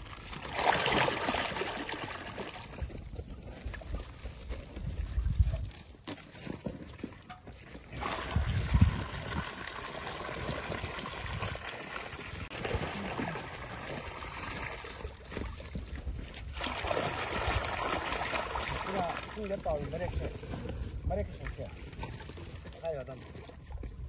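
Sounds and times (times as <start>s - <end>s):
water splashing into pond: 0.0s - 24.0s.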